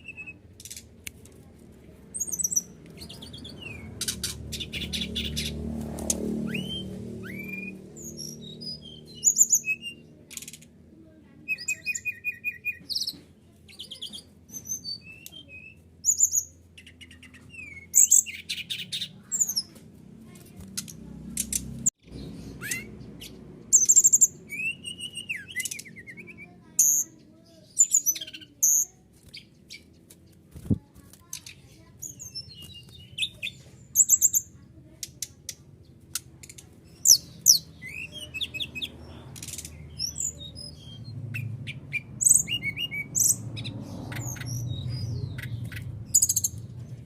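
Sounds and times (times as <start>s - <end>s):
bird singing chirps and trills: 0.0s - 0.9s, 2.1s - 47.0s.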